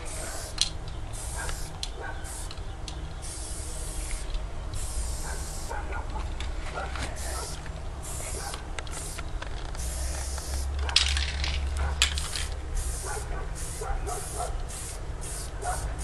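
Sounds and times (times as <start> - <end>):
spray can hissing: 0.0 - 2.6, 3.2 - 5.8, 7.2 - 16.0.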